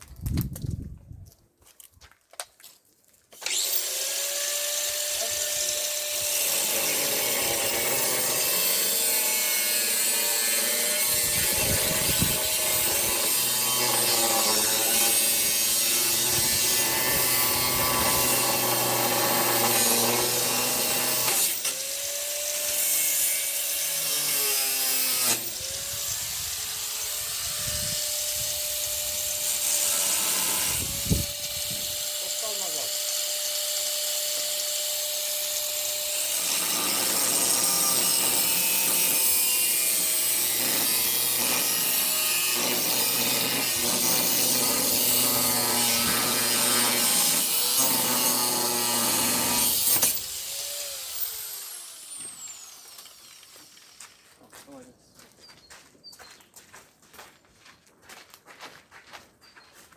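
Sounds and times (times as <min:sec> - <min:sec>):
power tool cutting: 0:03.4 - 0:54.2.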